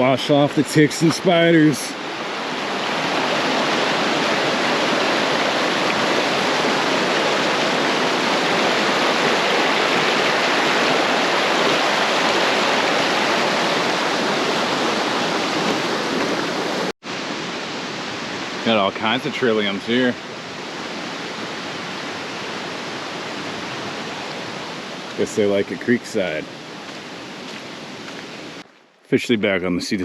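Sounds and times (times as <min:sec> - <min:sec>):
creek water rushing: 0:00.0 - 0:28.6.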